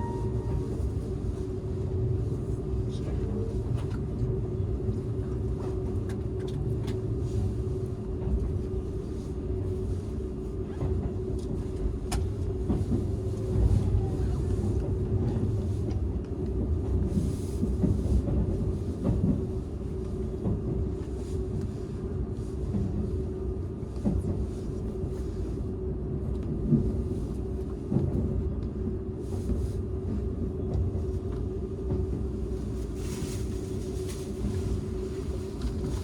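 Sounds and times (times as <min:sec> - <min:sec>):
train running on rails: 0:00.0 - 0:36.0.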